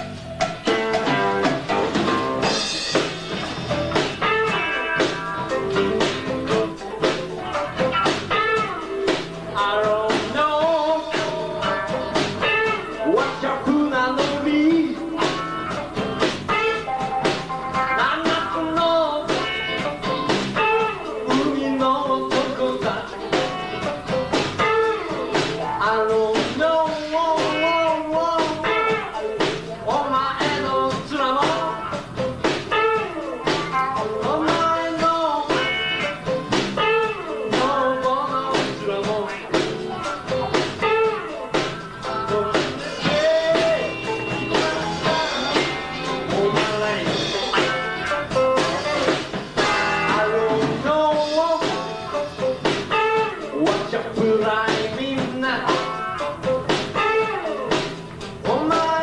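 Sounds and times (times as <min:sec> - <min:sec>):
live blues-rock band: 0:00.0 - 0:59.0.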